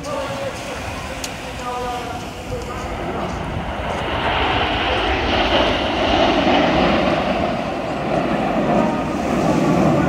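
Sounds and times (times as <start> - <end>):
jet aircraft flying overhead: 0.0 - 10.0.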